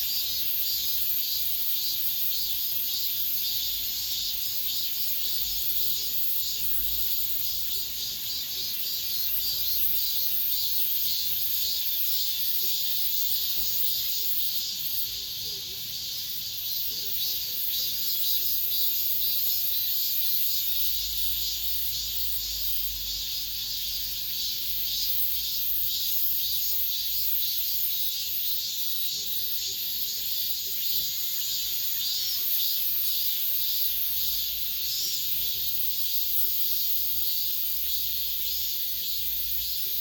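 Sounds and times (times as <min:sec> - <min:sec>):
cicadas buzzing: 0:00.0 - 0:40.0.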